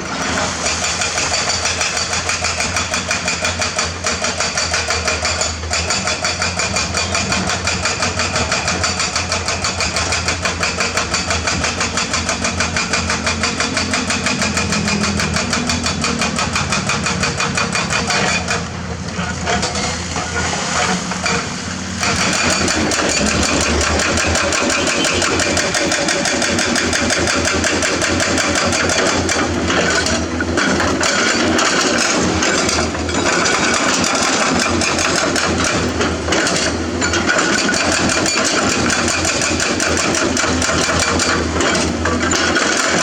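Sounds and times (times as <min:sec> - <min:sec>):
excavator diesel engine clattering: 0:00.0 - 0:43.0.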